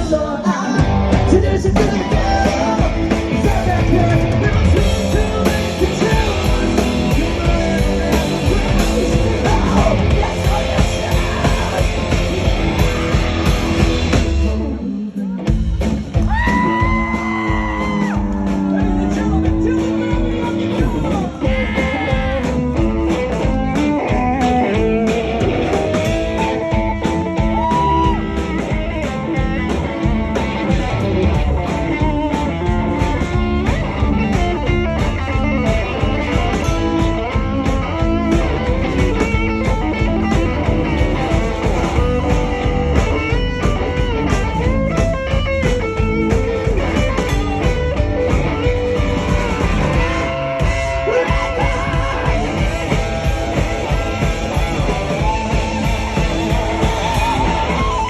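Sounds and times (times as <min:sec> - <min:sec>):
lead guitar: 0:00.0 - 0:58.0
rock band playing: 0:00.0 - 0:58.0.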